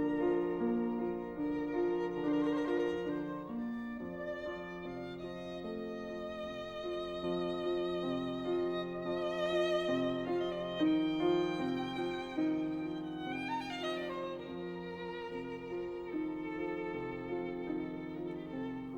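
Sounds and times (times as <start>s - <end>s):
violin playing slow melody: 0.0s - 18.9s.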